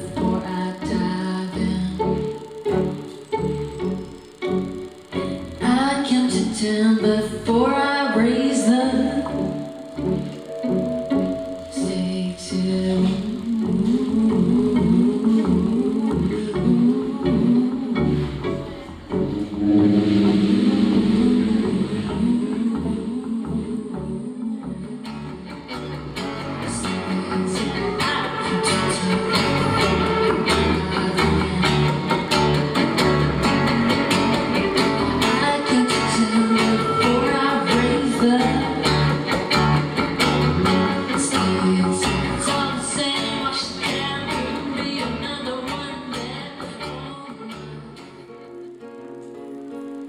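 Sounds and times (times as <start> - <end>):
woman singing: 0.0 - 4.2, 5.4 - 18.9, 19.5 - 25.8, 26.5 - 32.8, 34.8 - 39.8, 40.8 - 48.5
strummed acoustic guitar: 0.0 - 23.8, 25.0 - 50.0
electric guitars: 0.0 - 50.0
violin: 0.0 - 50.0.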